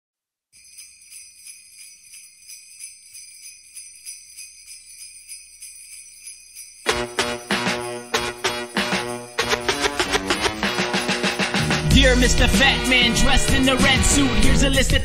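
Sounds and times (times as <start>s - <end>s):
sleigh bells jingling: 0.6s - 15.0s.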